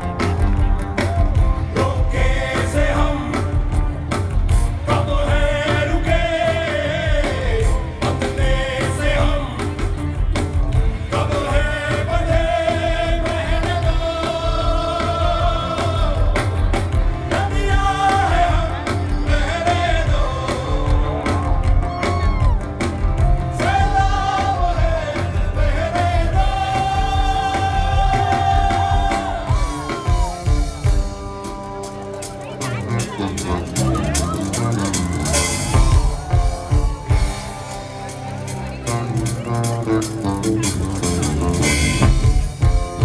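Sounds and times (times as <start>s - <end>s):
rock band playing: 0.0s - 43.0s.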